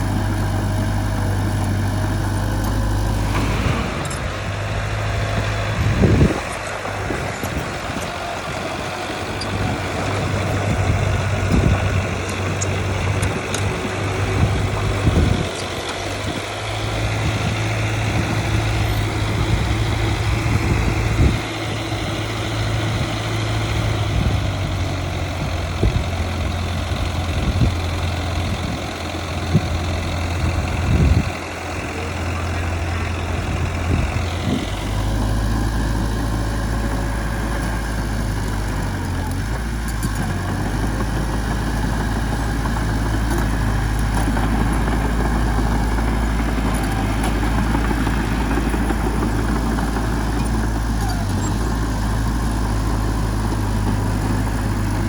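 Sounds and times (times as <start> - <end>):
diesel engine running at low revs: 0.0 - 55.0.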